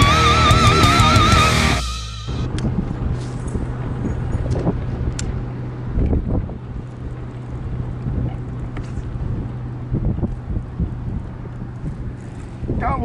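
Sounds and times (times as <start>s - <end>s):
steady low hum: 0.0s - 13.0s
wind buffeting microphone: 2.4s - 13.0s.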